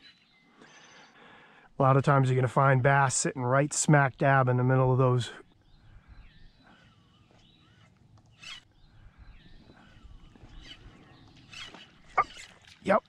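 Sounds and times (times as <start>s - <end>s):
distant birdsong: 0.0s - 3.0s, 3.8s - 13.0s.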